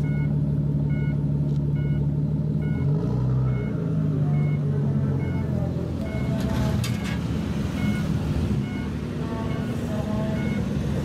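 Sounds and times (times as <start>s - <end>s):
car engine and exhaust low revs: 0.0s - 11.0s.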